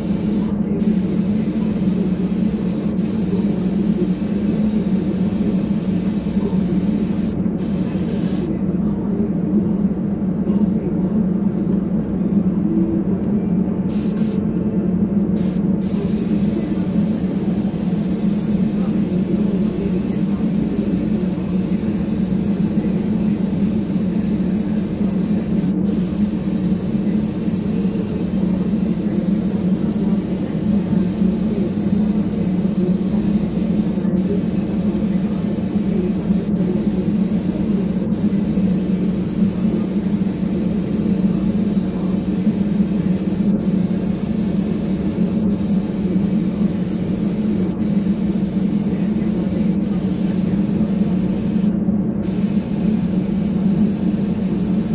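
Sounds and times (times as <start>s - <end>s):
paint spray gun hissing: 0.0s - 8.5s, 13.9s - 14.4s, 15.3s - 54.9s.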